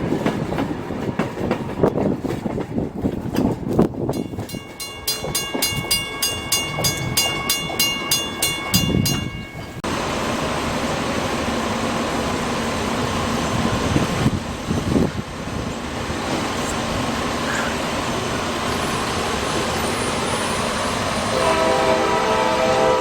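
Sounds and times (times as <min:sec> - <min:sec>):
freight train passing on rails: 0:00.0 - 0:23.0.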